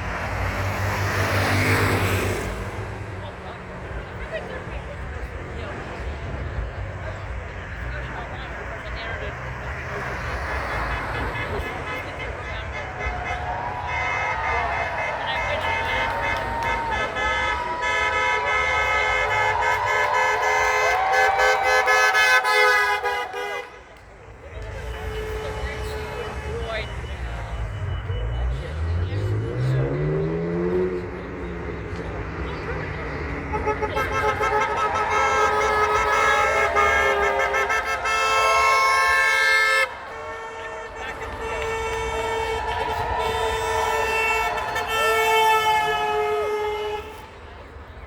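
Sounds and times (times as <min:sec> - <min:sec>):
car horns honking: 0:00.0 - 0:48.0.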